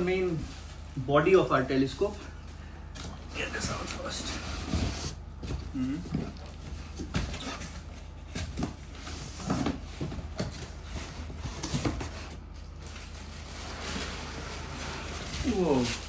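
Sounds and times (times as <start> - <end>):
cardboard rustling and scraping: 3.0 - 16.0.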